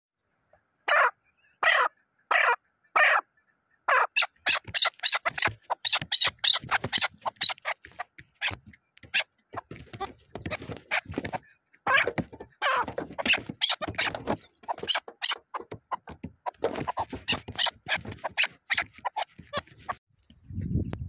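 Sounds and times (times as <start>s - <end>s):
partridge calling: 0.8s - 20.0s.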